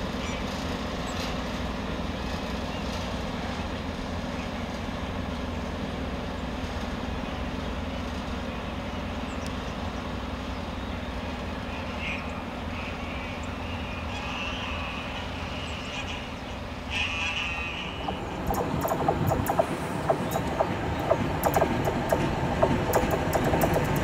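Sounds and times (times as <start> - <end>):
freight train rumbling: 0.0 - 24.0.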